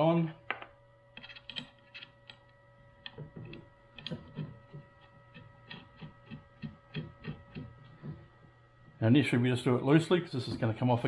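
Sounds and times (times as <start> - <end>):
faint hum with high whine: 0.0 - 11.0.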